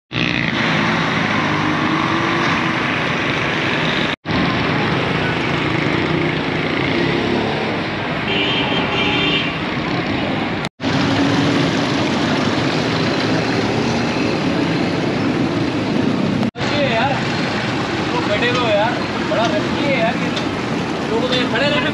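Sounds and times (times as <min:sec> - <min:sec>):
street traffic: 0:00.1 - 0:21.9.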